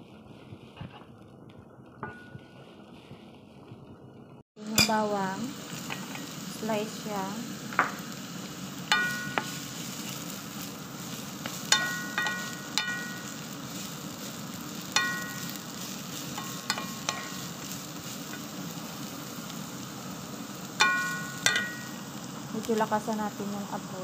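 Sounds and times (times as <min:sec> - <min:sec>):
onion and garlic sizzling in oil: 0:00.0 - 0:24.0.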